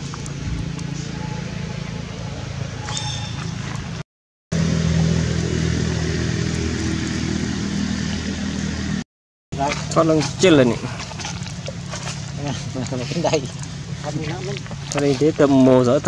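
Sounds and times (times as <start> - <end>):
engine running steadily: 0.0 - 9.0, 9.6 - 16.0.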